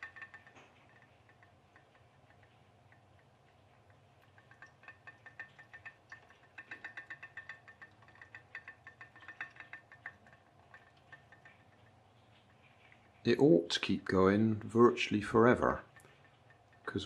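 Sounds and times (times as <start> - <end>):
pop-pop boat rapid ticking: 0.0 - 17.0.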